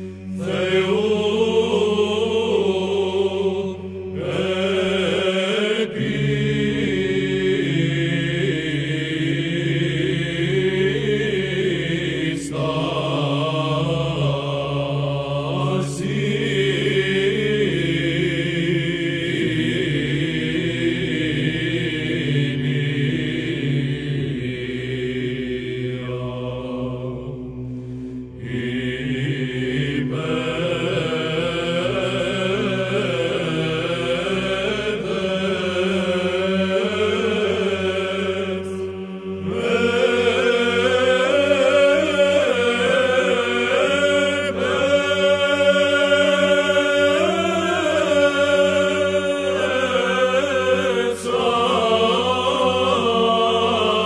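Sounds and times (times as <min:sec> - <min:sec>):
choir chanting ornamented melody: 0:00.0 - 0:54.0
held vocal drone: 0:00.0 - 0:54.0.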